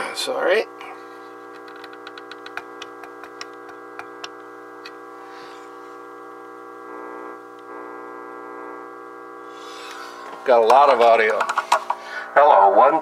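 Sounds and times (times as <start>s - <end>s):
transmitter power-supply hum: 0.0s - 13.0s.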